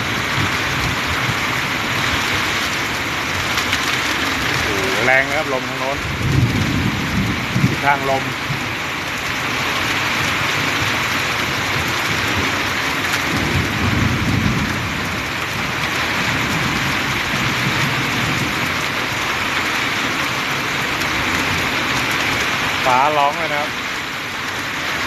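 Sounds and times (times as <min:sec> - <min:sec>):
low rumble of thunder: 0:00.0 - 0:22.8
heavy rain in strong wind: 0:00.0 - 0:25.0.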